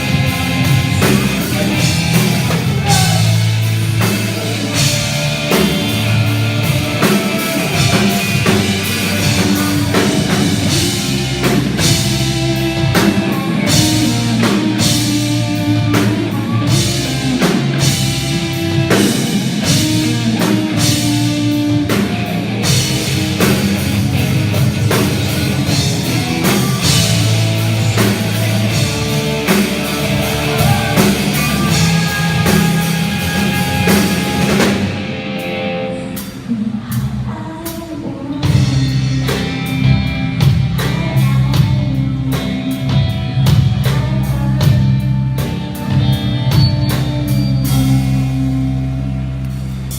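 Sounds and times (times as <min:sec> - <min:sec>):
drum kit: 0:00.0 - 0:49.9
electric guitar: 0:00.0 - 0:49.9
rock band playing: 0:00.0 - 0:49.9.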